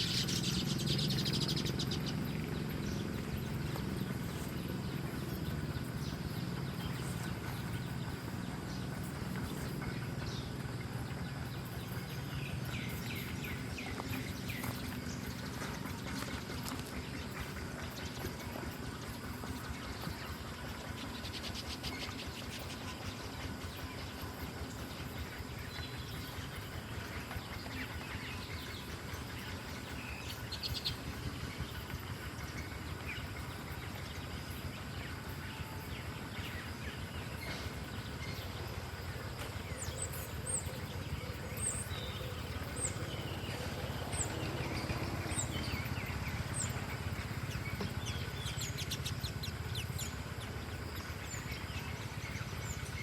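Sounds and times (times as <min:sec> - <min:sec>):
low background rumble: 0:00.0 - 0:53.0
small birds chirping: 0:00.0 - 0:53.0.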